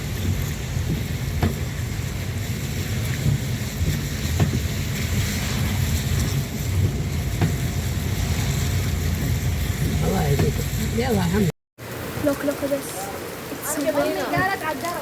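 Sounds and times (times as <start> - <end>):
heavy rain pouring: 0.0 - 15.0
water rushing: 0.0 - 15.0.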